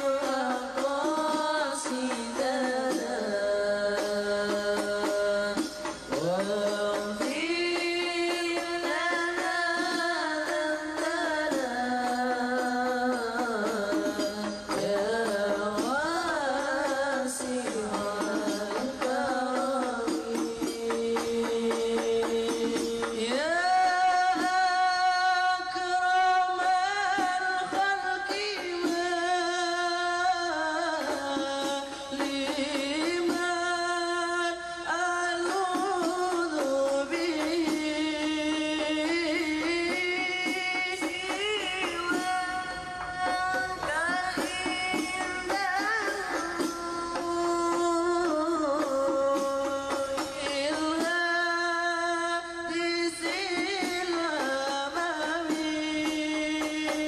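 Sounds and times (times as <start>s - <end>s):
devotional song with wavering voice: 0.0s - 57.0s.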